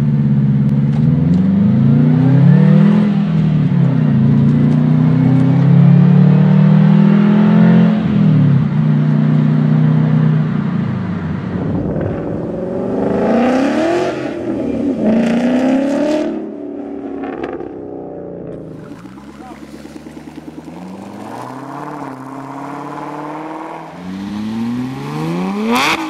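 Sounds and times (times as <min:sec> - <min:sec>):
sports car engine revving: 0:00.0 - 0:26.0.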